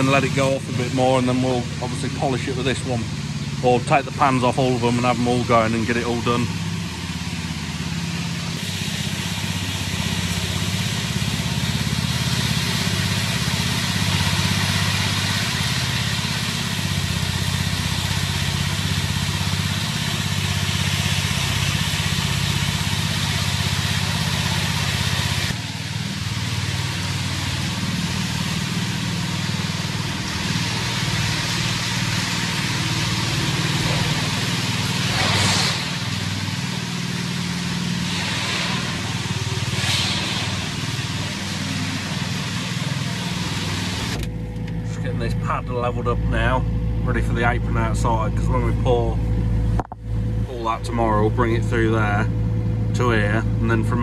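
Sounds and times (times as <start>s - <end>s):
power float engine running: 0.0s - 54.0s.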